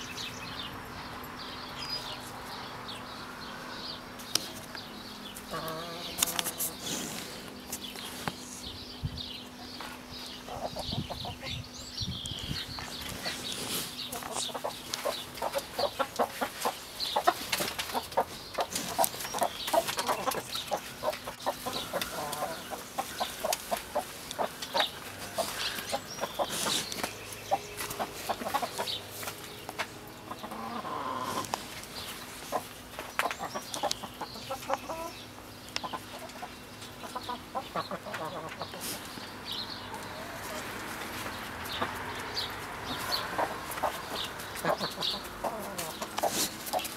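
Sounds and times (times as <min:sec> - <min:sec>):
hens clucking: 0:04.3 - 0:08.4, 0:09.5 - 0:11.7, 0:12.7 - 0:46.9.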